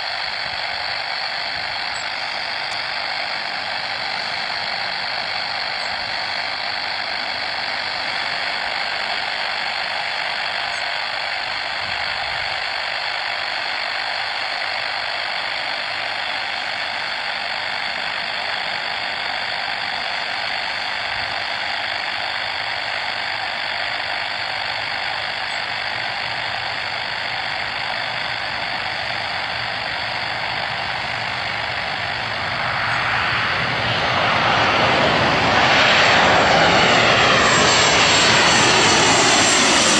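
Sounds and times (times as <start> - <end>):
jet airliner engines whine: 0.0 - 39.9.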